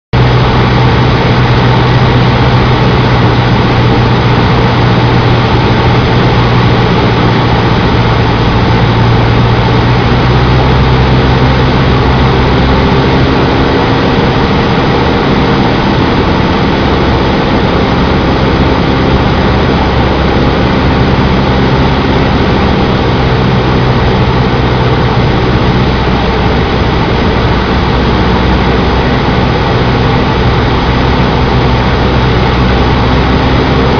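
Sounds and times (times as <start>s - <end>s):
propeller plane engine running: 0.1s - 33.9s.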